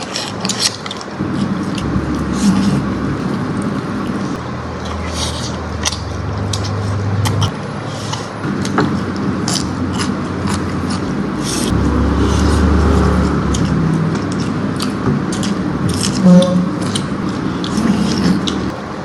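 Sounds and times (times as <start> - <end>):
person chewing and crunching: 0.0 - 18.8
low background hum: 0.0 - 19.0.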